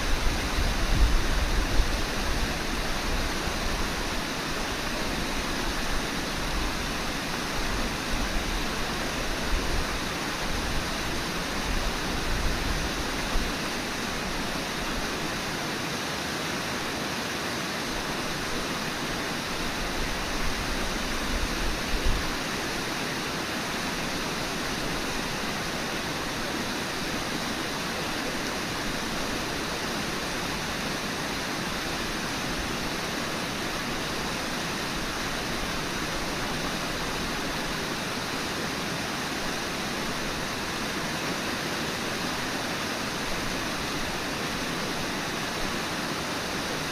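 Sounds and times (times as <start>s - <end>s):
river water rushing over rapids: 0.0s - 46.9s.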